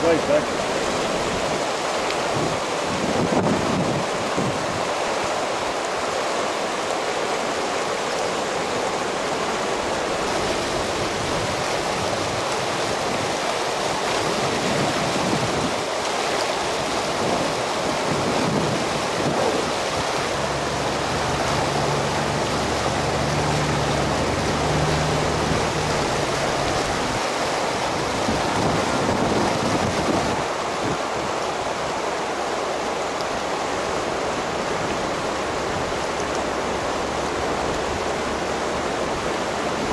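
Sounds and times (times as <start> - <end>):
flooded river rushing over rocks: 0.0 - 39.9.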